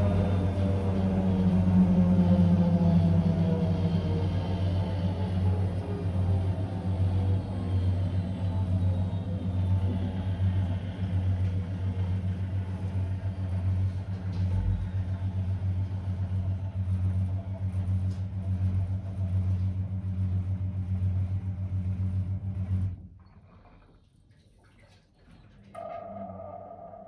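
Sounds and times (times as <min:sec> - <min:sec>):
washing machine spinning: 0:00.0 - 0:22.9.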